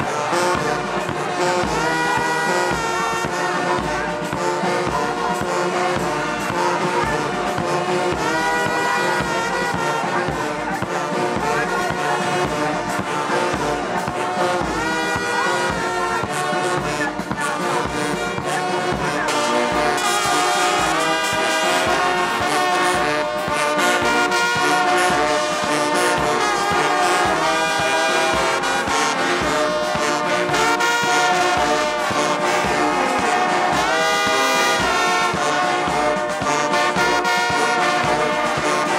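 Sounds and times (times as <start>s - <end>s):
brass marching band playing: 0.0s - 38.9s
steady drum beat: 0.0s - 38.9s.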